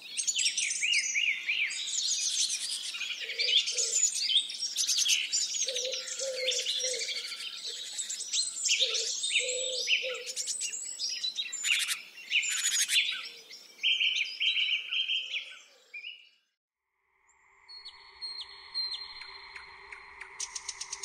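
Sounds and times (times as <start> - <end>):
songbirds singing: 0.0 - 16.6, 17.3 - 21.0.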